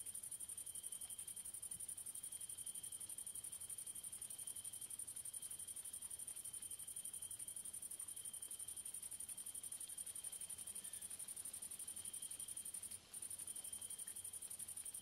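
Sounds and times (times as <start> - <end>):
faint low insect trill: 0.0 - 15.0.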